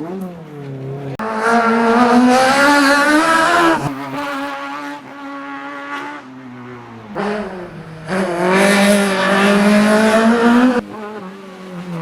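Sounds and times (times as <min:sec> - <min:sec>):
car engine revving hard: 0:01.2 - 0:12.0.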